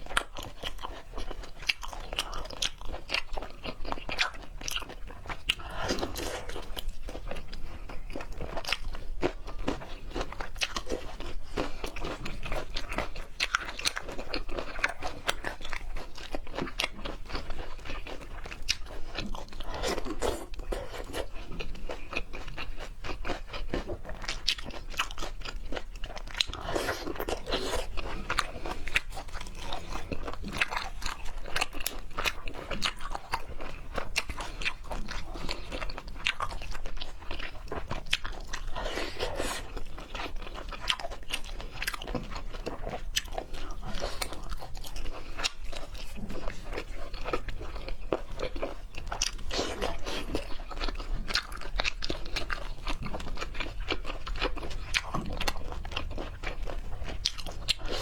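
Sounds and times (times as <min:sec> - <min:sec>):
chewing with wet crunches: 0:00.0 - 0:58.0.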